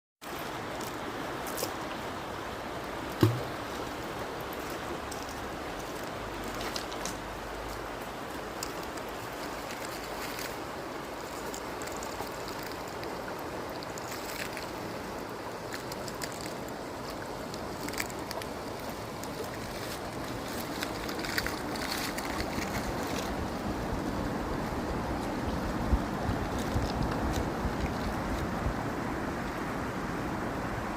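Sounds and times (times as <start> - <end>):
river water rushing: 0.2 - 30.9.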